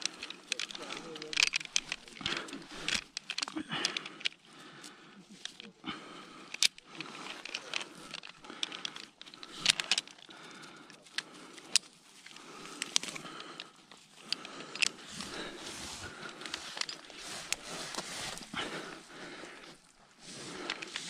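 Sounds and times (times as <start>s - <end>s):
carabiners clinking on metal: 0.0s - 5.7s, 6.4s - 21.0s
rope and branches rustling: 0.0s - 21.0s.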